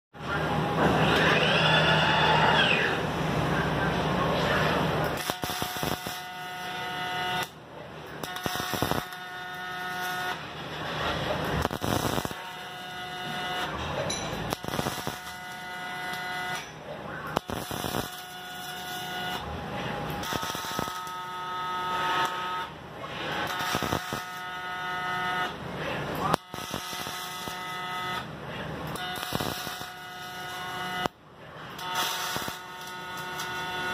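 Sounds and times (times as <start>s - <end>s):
welding arc buzzing and crackling: 4.5s - 33.9s.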